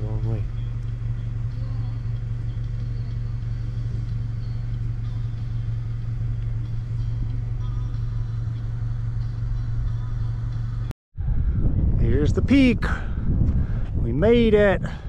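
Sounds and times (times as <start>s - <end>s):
constant low hum: 0.0s - 15.0s
truck engine and road rumble: 0.0s - 15.0s.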